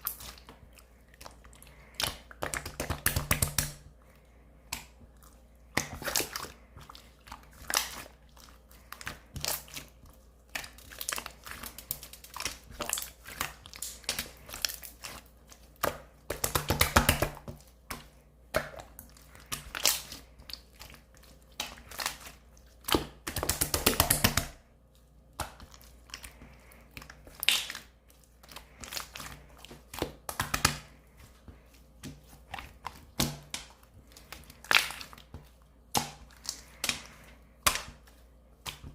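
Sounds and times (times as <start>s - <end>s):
slime squishing with sticky clicks: 0.0s - 4.0s, 4.6s - 38.9s
slime crackling: 4.6s - 38.9s.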